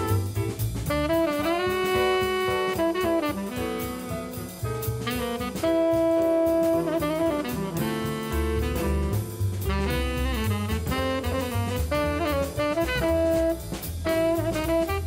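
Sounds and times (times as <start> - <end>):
drum kit steady beat: 0.0 - 15.0
saxophone holding notes: 0.0 - 15.0.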